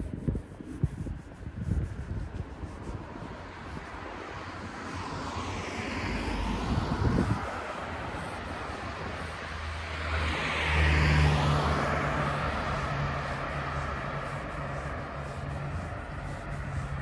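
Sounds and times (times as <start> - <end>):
cars driving past: 2.6 - 17.0.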